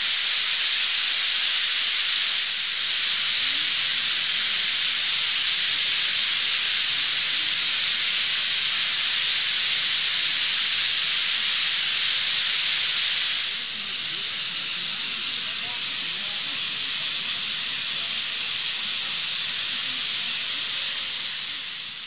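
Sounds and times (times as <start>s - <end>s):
massed bird flock chattering: 1.5s - 22.0s.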